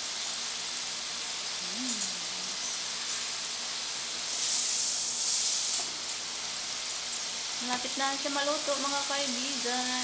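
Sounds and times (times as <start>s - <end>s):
fries sizzling in hot oil: 0.0s - 10.0s.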